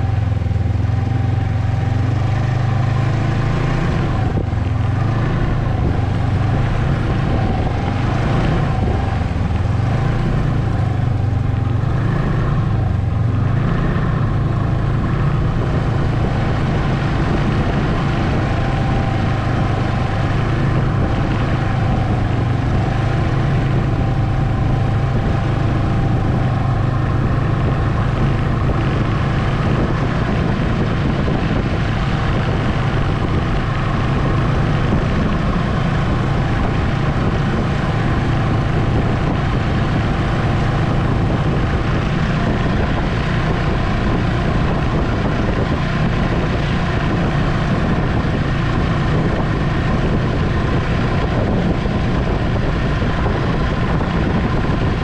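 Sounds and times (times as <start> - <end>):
rushing noise: 0.0 - 55.0
snowmobile engine drone: 0.0 - 55.0.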